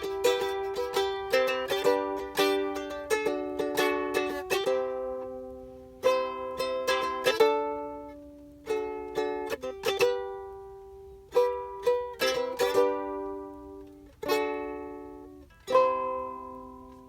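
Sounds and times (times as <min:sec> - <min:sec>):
strummed acoustic chords: 0:00.0 - 0:17.0.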